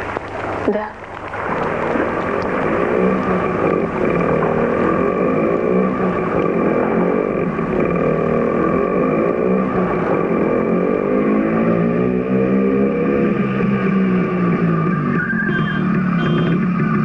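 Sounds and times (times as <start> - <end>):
motorcycle engine revving: 1.4 - 17.0.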